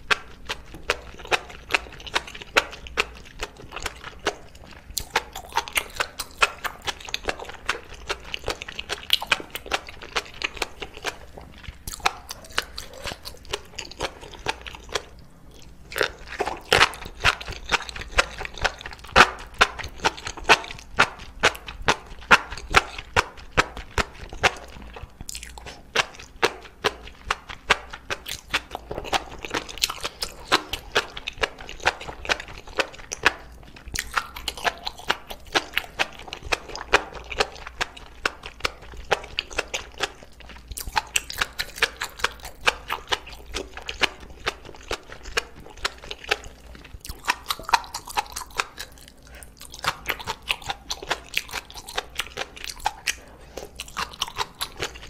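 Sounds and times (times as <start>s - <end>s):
close chewing: 0.0s - 55.0s.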